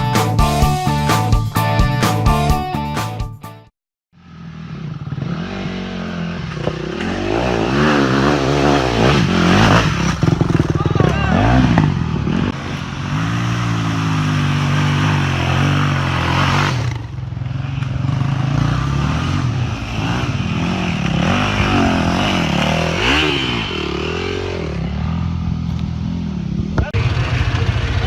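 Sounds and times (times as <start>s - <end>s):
off-road vehicle engine revving: 4.5s - 28.0s.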